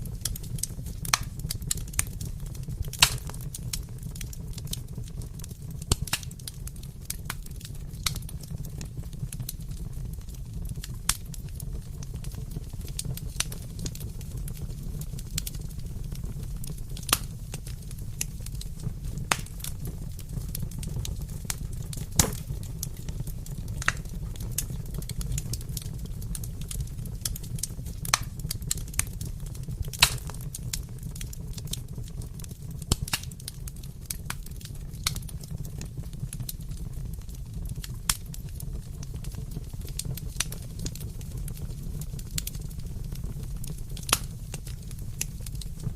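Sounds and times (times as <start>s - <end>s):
low rumble of fire: 0.0s - 45.9s
wood fire crackling and popping: 0.0s - 45.9s.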